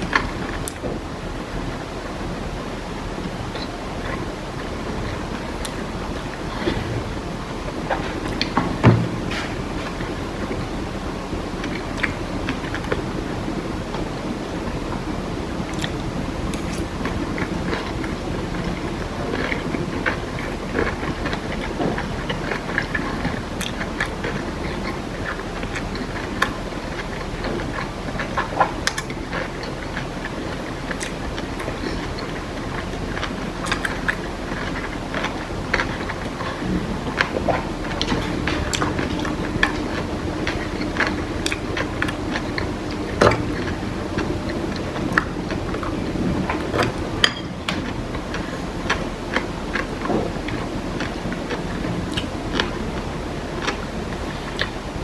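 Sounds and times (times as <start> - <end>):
close-up chewing: 0.0 - 55.0
steady low hum: 0.0 - 55.0
crunchy mouth clicks: 3.3 - 55.0.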